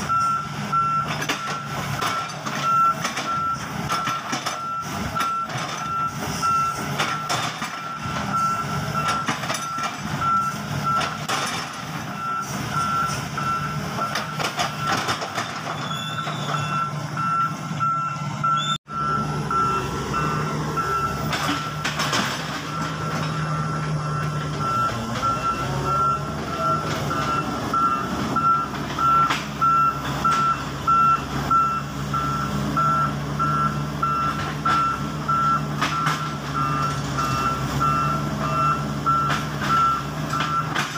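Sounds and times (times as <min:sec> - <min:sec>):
diesel engine humming: 0:00.0 - 0:40.9
excavator warning alarm beeping: 0:00.0 - 0:40.9.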